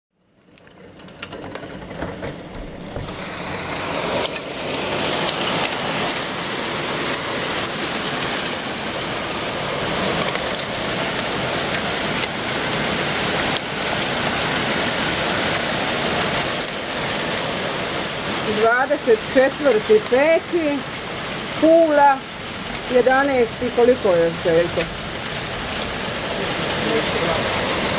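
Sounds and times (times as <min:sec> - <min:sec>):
hail clattering: 0:00.3 - 0:27.9
heavy rain hiss: 0:02.8 - 0:27.9.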